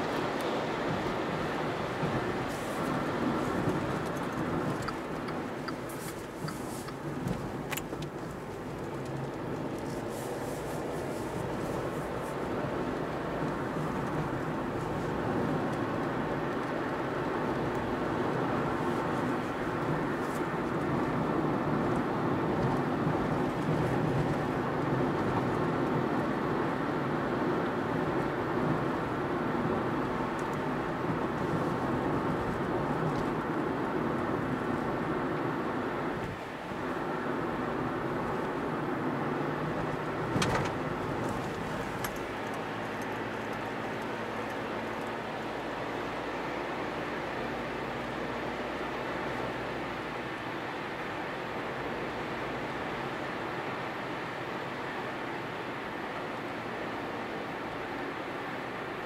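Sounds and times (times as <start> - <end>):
car engine hum: 0.0 - 59.0
tyre and road noise: 0.0 - 59.0.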